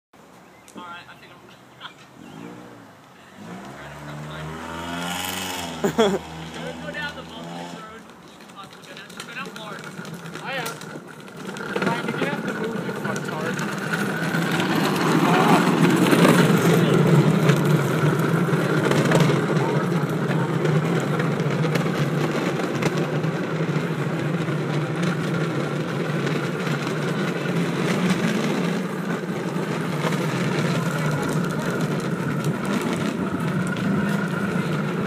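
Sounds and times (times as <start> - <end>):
rumbling road noise: 0.2 - 35.0.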